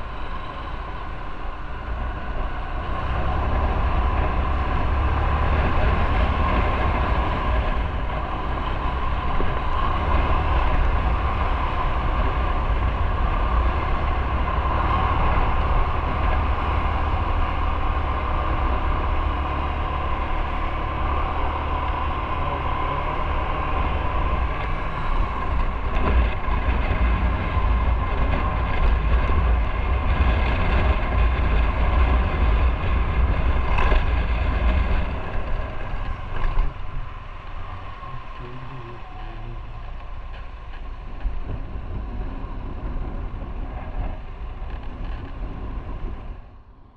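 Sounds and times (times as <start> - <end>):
motorcycle engine and road noise: 0.0 - 46.9.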